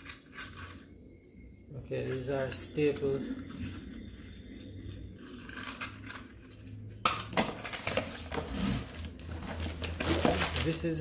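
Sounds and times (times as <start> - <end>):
packaging rustling: 2.0 - 11.0.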